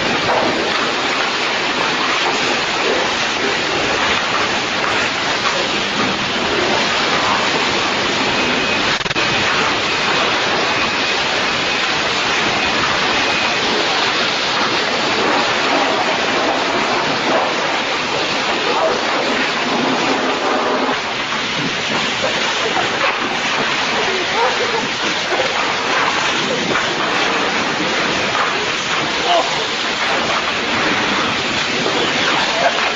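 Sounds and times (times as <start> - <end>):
car wash rushing noise: 0.0 - 32.9.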